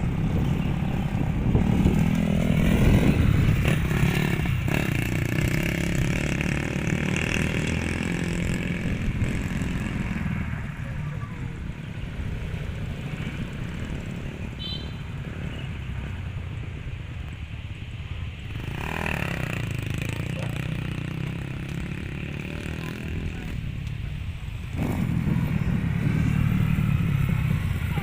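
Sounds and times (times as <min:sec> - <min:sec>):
motocross bike engines revving: 0:00.0 - 0:16.3, 0:18.4 - 0:28.0.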